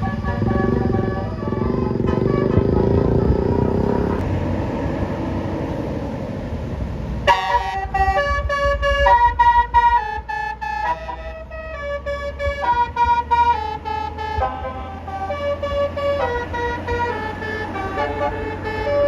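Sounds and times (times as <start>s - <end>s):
multi-tone musical bus horn: 0.0s - 4.7s, 7.2s - 19.0s
heavy vehicle engine rumbling: 0.0s - 19.0s.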